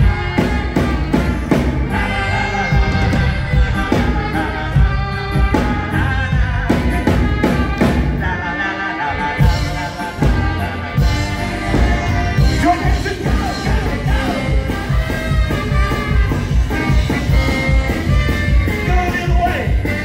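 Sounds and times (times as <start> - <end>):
drum kit steady beat: 0.0 - 8.3, 9.4 - 20.0
keyboard: 0.0 - 20.0
polka band playing: 0.0 - 20.0
saxophone: 0.0 - 20.0
trumpet: 0.0 - 20.0.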